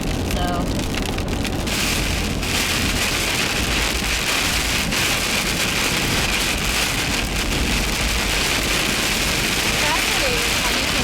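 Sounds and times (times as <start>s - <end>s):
heavy rain pelting a car: 0.0s - 11.0s
low steady rumble: 0.0s - 11.0s.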